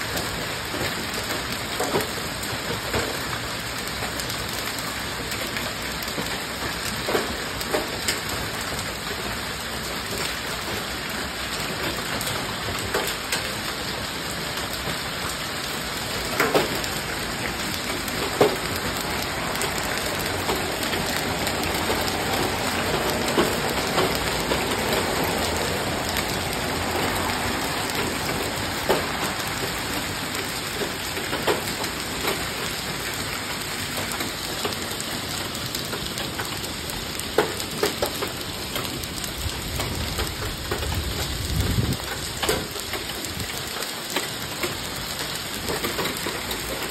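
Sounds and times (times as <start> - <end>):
hailstones clicking: 0.0 - 46.9
rain hissing on grass and concrete: 0.0 - 46.9.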